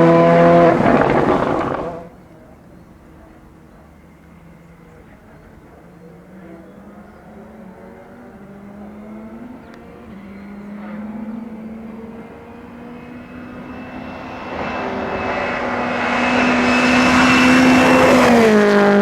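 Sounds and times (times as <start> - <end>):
distant engine droning: 0.0 - 19.0.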